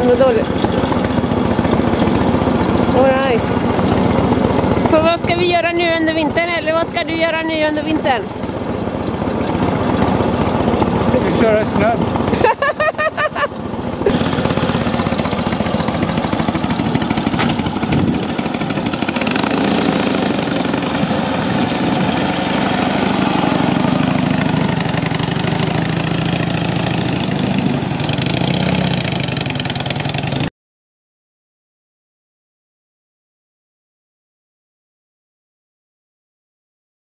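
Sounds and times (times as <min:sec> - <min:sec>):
motorcycle engine running: 0:00.0 - 0:30.5.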